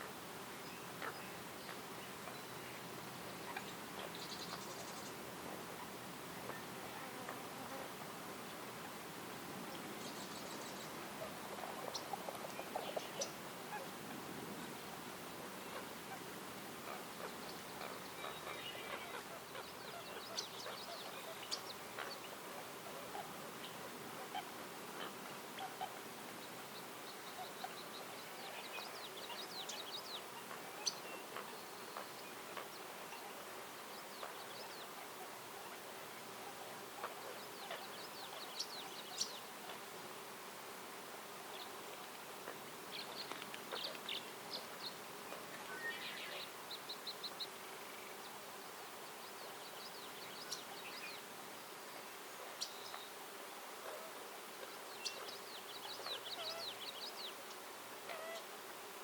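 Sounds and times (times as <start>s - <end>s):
songbirds singing: 0.0s - 7.8s, 8.4s - 40.0s, 41.4s - 58.5s
faint continuous hum: 0.0s - 59.0s
steady soft hiss: 0.0s - 59.0s.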